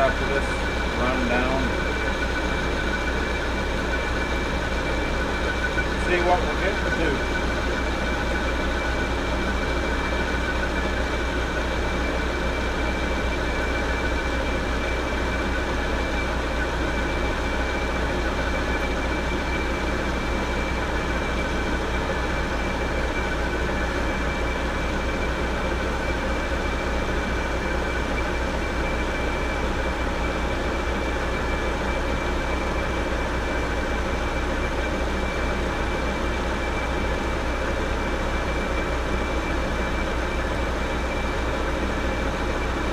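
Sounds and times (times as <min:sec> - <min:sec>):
lathe running with high whine: 0:00.0 - 0:42.9.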